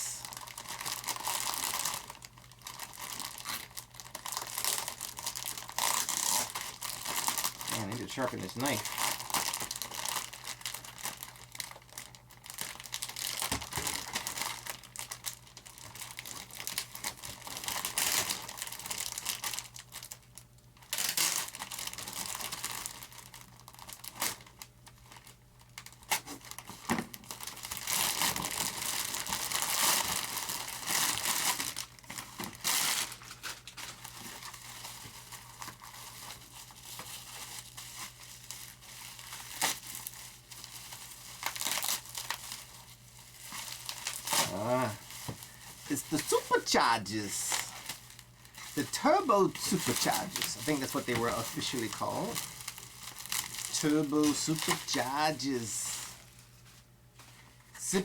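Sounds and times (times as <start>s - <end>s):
plastic packaging crinkling and tearing: 0.0s - 58.0s.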